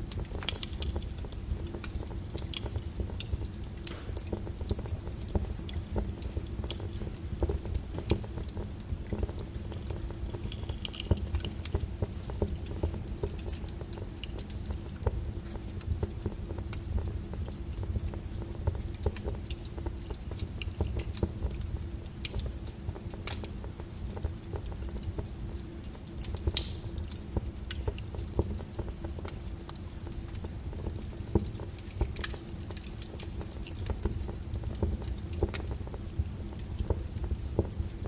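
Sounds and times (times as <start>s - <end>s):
fire crackling and popping: 0.0s - 38.0s
low rumble of flames: 0.0s - 38.0s.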